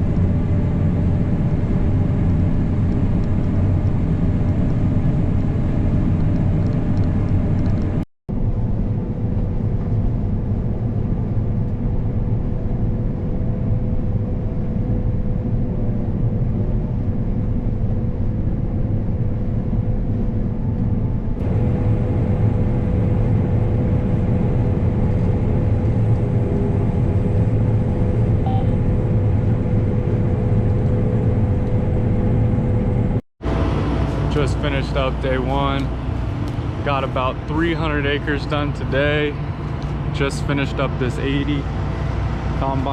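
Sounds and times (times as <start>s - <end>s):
constant machine whine: 0.0s - 42.9s.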